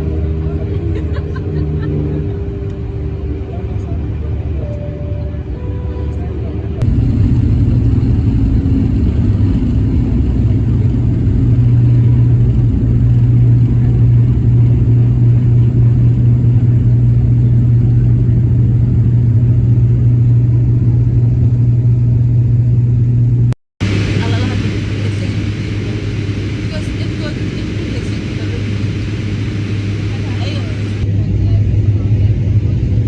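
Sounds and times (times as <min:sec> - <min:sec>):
vehicle rumbling in motion: 0:00.0 - 0:31.2.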